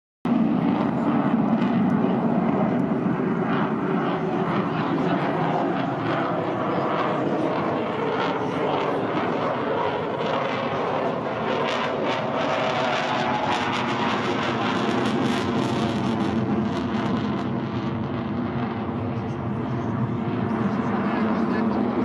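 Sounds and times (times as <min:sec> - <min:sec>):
jet engine roar: 0:00.3 - 0:22.0.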